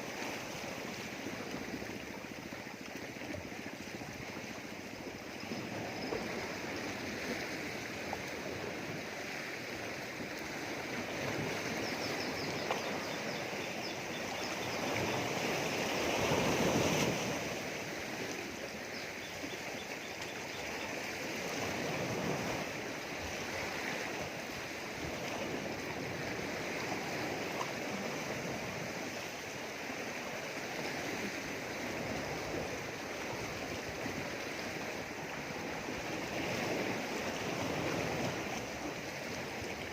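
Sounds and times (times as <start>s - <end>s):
sea waves washing against rocks: 0.0s - 18.9s, 21.0s - 39.9s.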